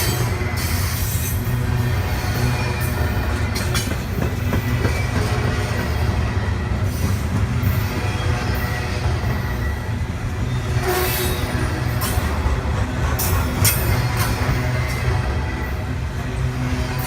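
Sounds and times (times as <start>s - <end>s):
train rumbling by: 0.0s - 17.0s.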